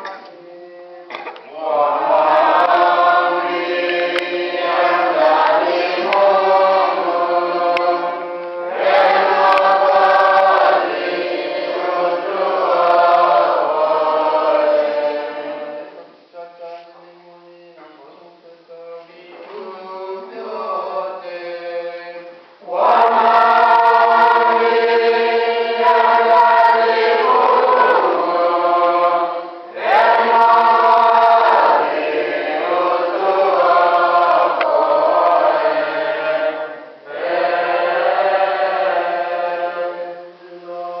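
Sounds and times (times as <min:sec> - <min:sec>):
choir chanting: 0:01.5 - 0:16.2, 0:19.1 - 0:41.0.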